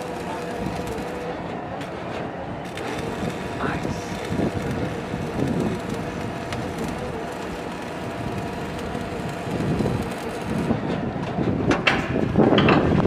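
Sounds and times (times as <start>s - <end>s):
drilling rig engine running: 0.0s - 11.3s.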